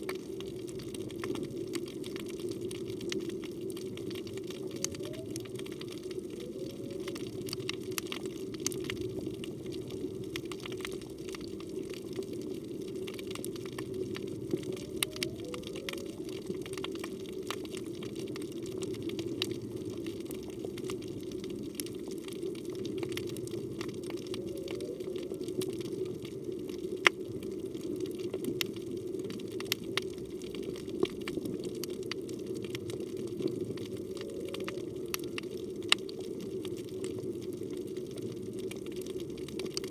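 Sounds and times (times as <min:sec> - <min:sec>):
underwater hum: 0:00.0 - 0:39.9.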